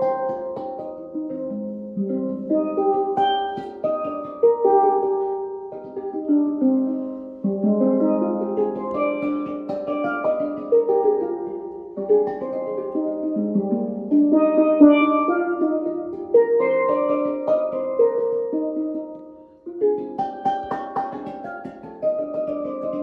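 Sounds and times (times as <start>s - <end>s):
steelpan melody: 0.0s - 23.0s.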